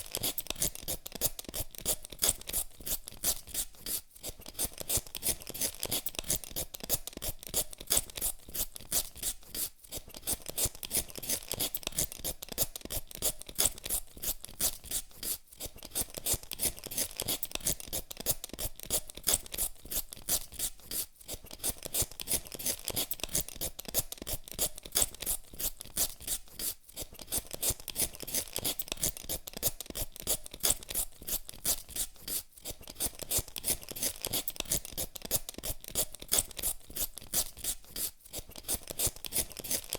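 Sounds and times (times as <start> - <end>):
peeler scraping potato skin: 0.0 - 39.9.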